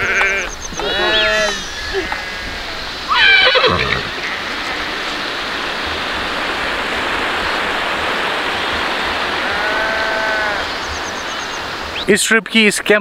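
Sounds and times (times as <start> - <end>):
stream rushing over rocks: 1.0 - 12.2.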